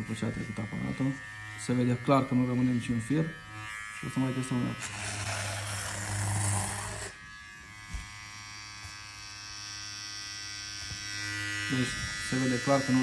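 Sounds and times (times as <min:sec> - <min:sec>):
hair trimmer buzzing: 0:00.0 - 0:13.0
trimmer rasping through hair: 0:00.0 - 0:13.0.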